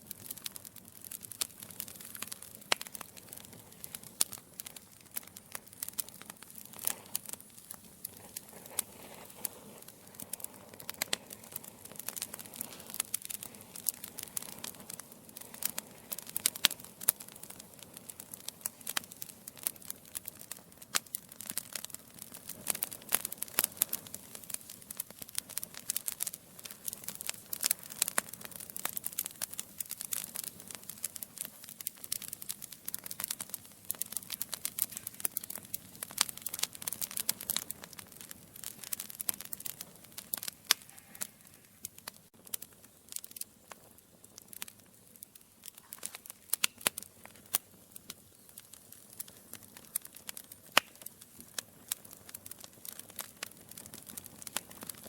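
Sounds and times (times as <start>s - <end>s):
faint steady hiss: 0.0s - 55.0s
logs crackling and popping: 0.0s - 55.0s.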